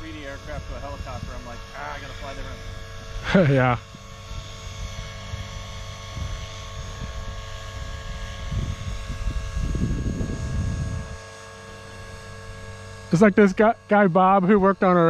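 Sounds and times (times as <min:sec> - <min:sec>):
wind rumble on microphone: 0:00.0 - 0:13.9
model plane motor whine: 0:00.0 - 0:15.0.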